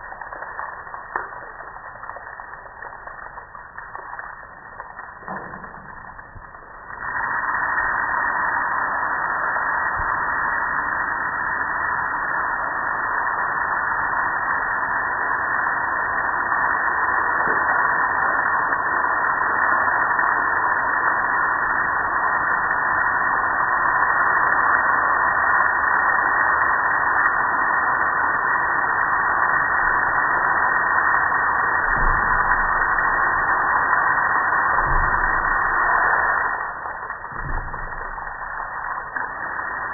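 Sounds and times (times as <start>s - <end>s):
water spray hissing on grill: 6.8s - 39.9s.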